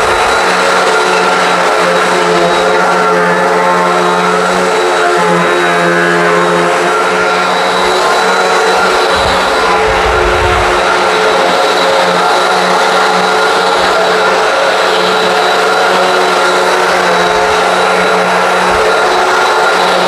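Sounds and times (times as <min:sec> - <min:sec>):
upright vacuum running: 0:00.0 - 0:20.0.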